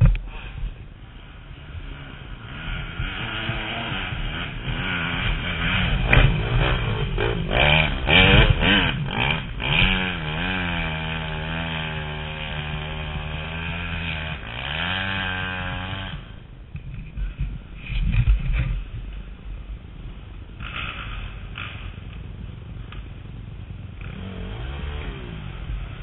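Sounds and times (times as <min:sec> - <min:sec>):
dirt bike engine revving: 0:01.2 - 0:16.6, 0:20.5 - 0:26.0.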